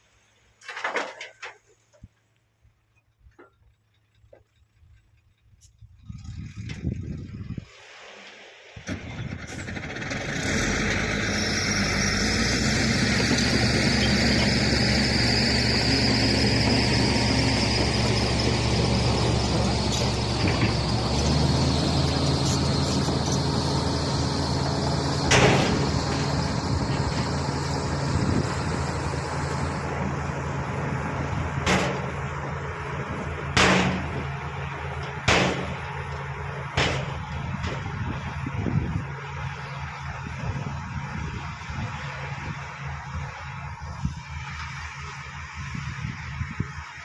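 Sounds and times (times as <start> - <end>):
bulldozer diesel engine running hard: 8.9 - 47.0.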